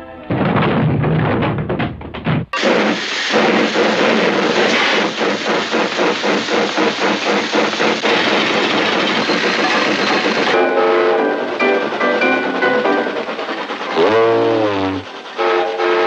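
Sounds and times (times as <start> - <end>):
mechanical hissing chugs: 2.6 - 16.0.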